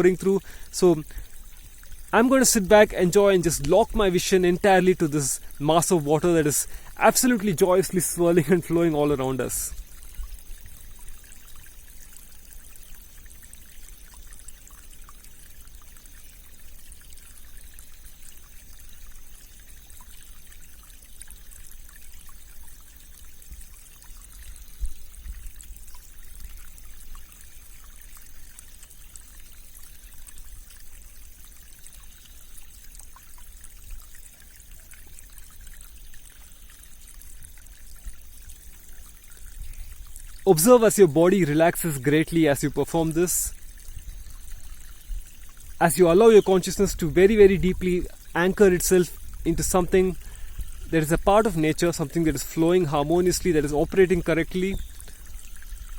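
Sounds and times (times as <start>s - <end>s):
stream flowing and trickling: 0.0s - 55.9s.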